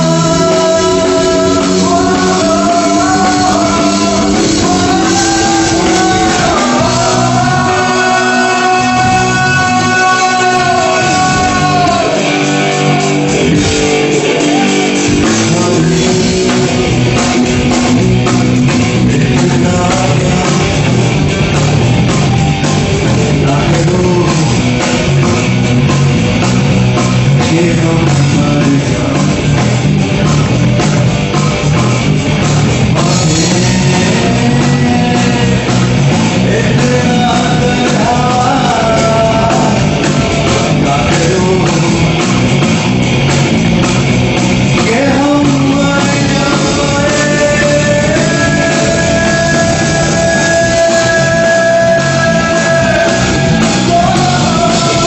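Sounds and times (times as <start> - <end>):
electric guitar lead with bends: 0.0 - 55.0
rock music with electric guitar: 0.0 - 55.0.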